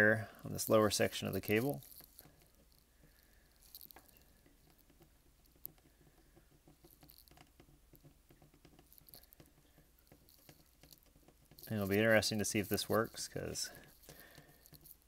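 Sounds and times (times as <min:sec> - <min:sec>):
soldering iron ticks and scratches: 0:00.4 - 0:15.0.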